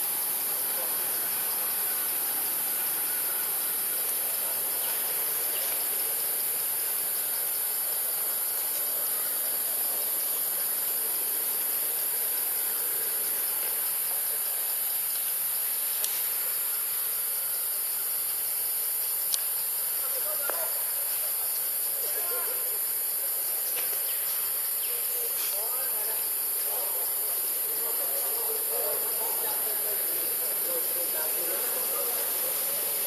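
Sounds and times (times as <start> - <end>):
forest insects droning: 0.0 - 33.0.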